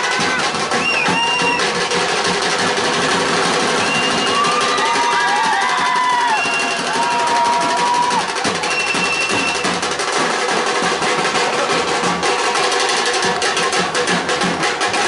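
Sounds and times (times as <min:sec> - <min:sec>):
drum band playing fast rhythm: 0:00.0 - 0:15.0.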